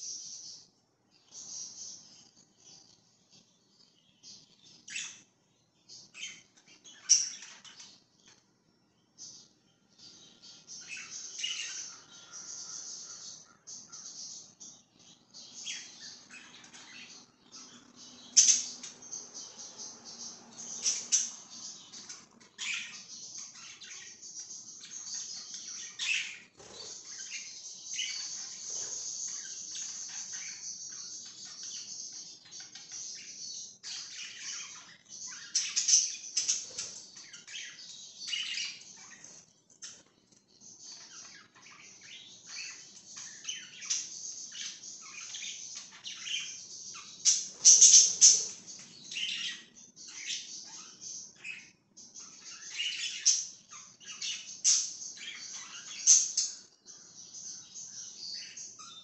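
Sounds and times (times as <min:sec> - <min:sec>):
budgerigars chirping: 0:00.0 - 0:08.4, 0:09.2 - 0:59.0.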